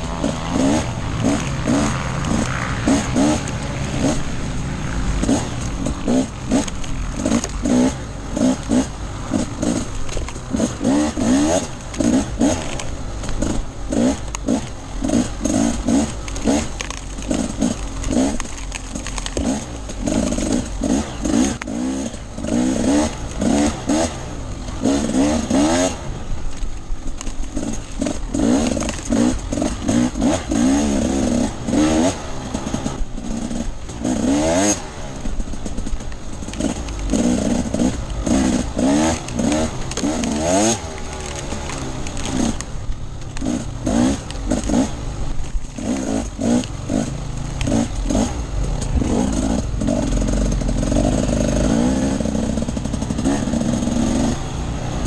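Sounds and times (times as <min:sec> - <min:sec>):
clatter: 0:00.0 - 0:55.0
motorcycle engine revving: 0:00.0 - 0:55.0.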